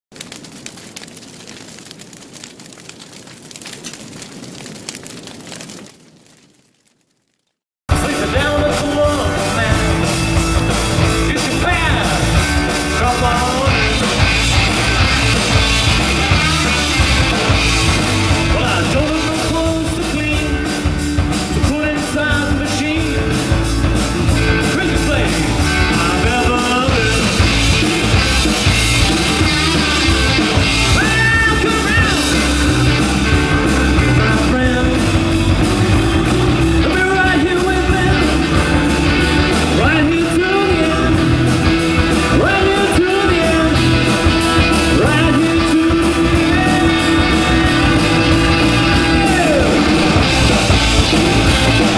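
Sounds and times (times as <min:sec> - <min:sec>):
lead vocal singing: 0:07.9 - 0:23.6, 0:24.4 - 0:51.9
rock band playing: 0:07.9 - 0:51.9.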